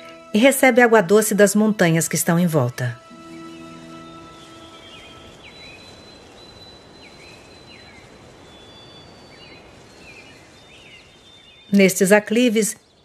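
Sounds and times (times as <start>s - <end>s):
thin high tone: 0.0s - 10.4s
birds chirping: 0.0s - 13.0s
steady hiss: 0.0s - 13.0s.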